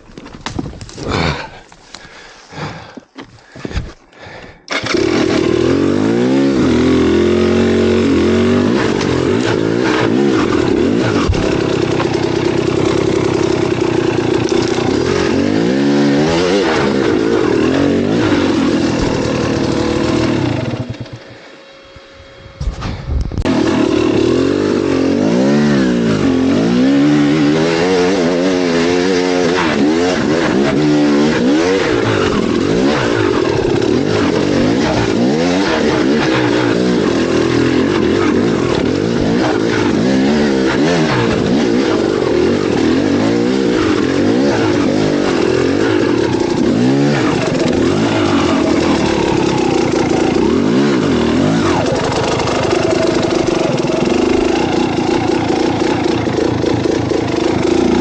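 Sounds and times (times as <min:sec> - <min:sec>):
engine revving: 0:04.7 - 0:21.3, 0:23.4 - 0:58.0.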